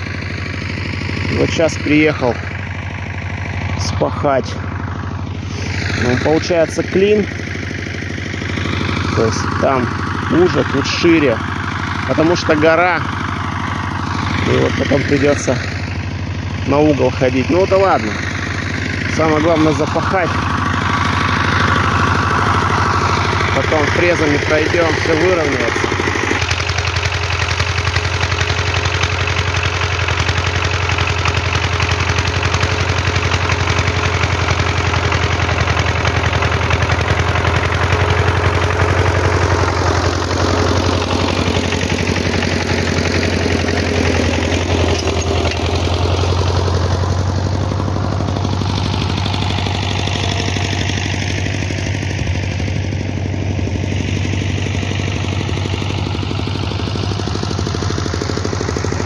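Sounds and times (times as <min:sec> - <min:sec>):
walk-behind tractor engine running: 0:00.0 - 0:59.0.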